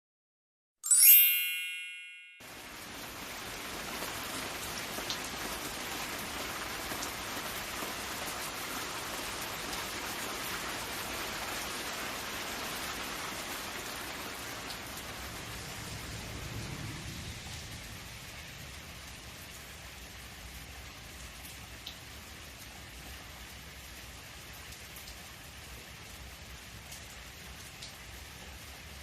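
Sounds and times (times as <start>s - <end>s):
steady rain falling: 2.4s - 29.0s.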